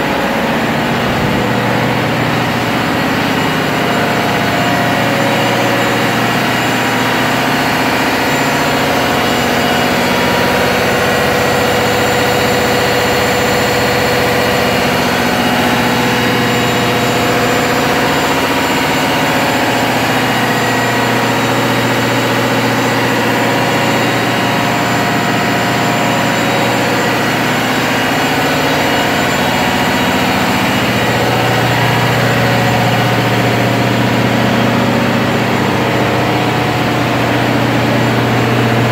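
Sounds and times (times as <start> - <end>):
deeper hum: 0.0 - 38.9
engine room machinery humming: 0.0 - 38.9.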